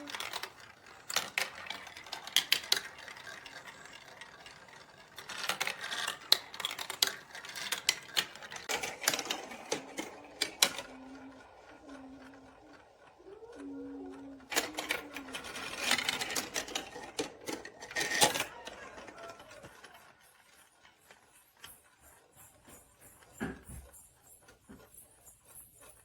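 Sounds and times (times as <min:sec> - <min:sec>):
marbles clattering down plastic run: 0:00.0 - 0:23.6.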